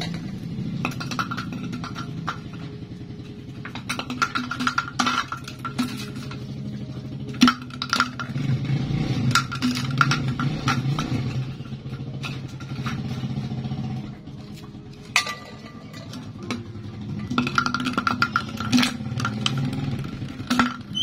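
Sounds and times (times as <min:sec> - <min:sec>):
plastic bottle clattering on concrete: 0:00.0 - 0:02.7, 0:03.6 - 0:06.5, 0:07.3 - 0:08.6, 0:09.3 - 0:13.6, 0:14.6 - 0:21.0
engine hum: 0:00.0 - 0:21.0.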